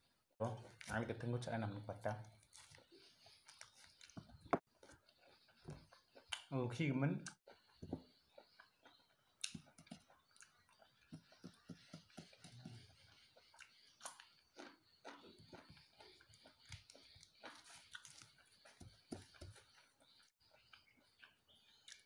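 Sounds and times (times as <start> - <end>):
person chewing food: 2.3 - 6.5, 7.2 - 22.0.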